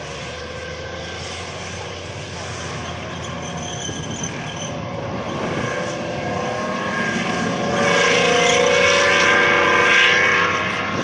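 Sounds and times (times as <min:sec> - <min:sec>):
tank engine running: 0:00.0 - 0:11.0
whine over engine: 0:00.0 - 0:11.0.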